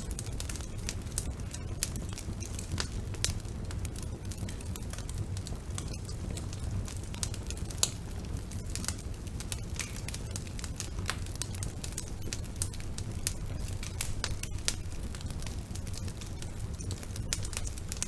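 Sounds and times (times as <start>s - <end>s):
fire flames rumbling: 0.0s - 18.0s
logs crackling and popping: 0.0s - 18.0s.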